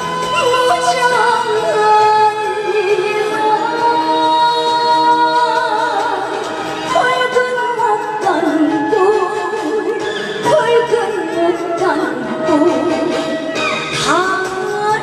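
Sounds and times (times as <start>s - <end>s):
backing music: 0.0s - 15.0s
woman singing with vibrato: 0.0s - 15.0s.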